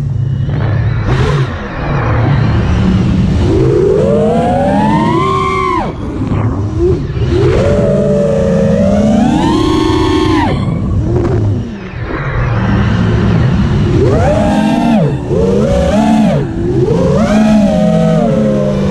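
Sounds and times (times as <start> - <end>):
drone motors whining: 0.0 - 18.9.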